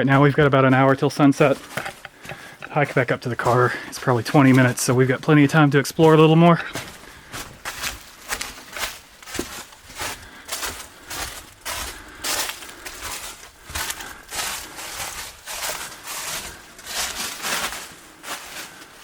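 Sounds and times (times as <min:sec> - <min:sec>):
footsteps on forest floor: 0:00.0 - 0:19.0.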